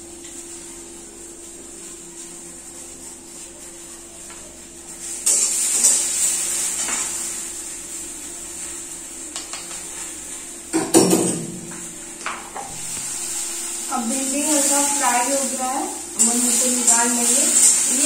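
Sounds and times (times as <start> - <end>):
okra sizzling in oil: 0.0 - 10.7, 11.6 - 18.0.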